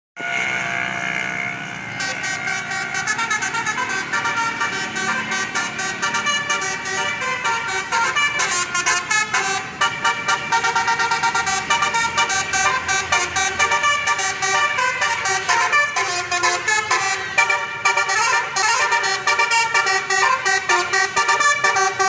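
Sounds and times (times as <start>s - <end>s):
multi-tone bus air horn: 0.2s - 22.0s.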